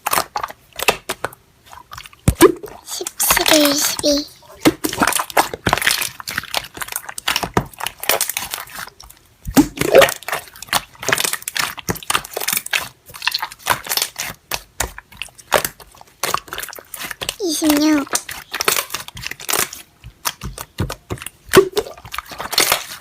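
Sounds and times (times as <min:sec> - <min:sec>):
slime squishing with sticky clicks: 0:00.0 - 0:23.0.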